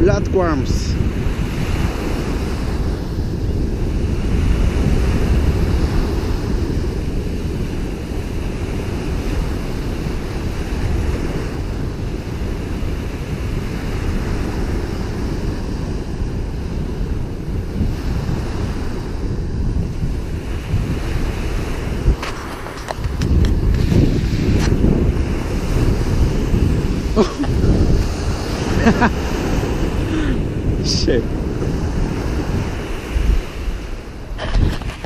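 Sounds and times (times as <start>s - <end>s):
small waves breaking on beach: 0.0s - 35.0s
wind buffeting microphone: 0.0s - 35.0s.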